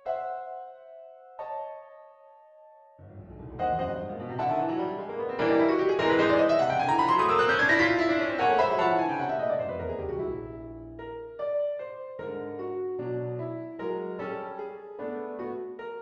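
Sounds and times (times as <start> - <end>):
solo piano piece: 0.0 - 16.0.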